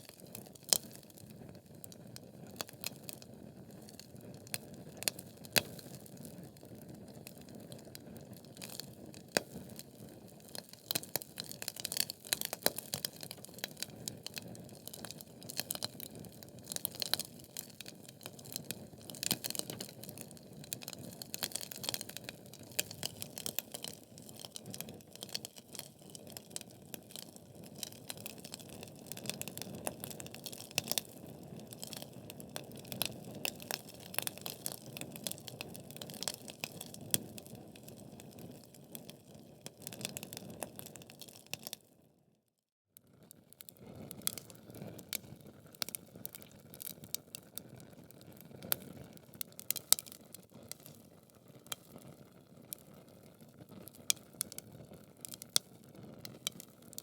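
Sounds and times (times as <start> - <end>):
wood crackling and popping: 0.0 - 41.8, 43.7 - 57.0.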